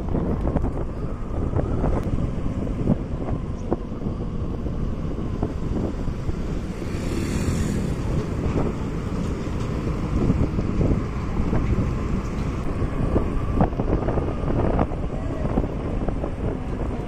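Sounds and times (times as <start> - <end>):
road noise: 0.0 - 17.0
wind rumbling over microphone: 0.0 - 17.0.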